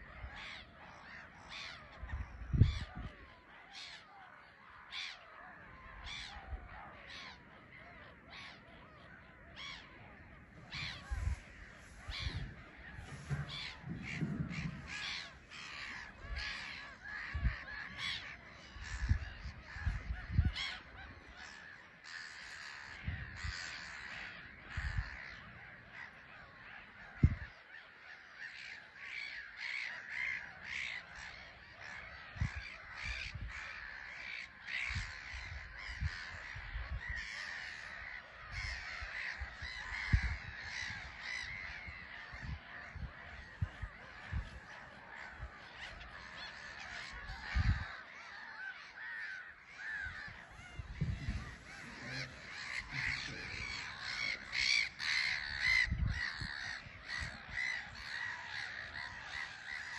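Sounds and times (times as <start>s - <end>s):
gulls calling: 0.0s - 59.9s.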